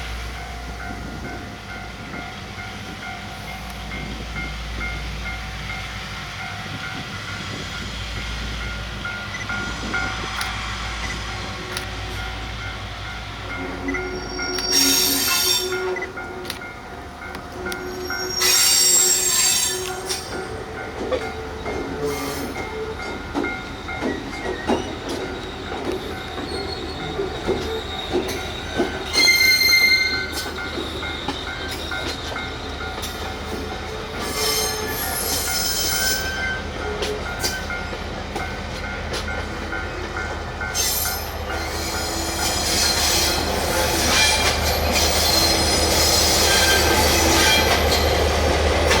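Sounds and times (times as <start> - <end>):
railway wheels squealing: 0.0 - 49.0
train rolling noise: 0.0 - 49.0.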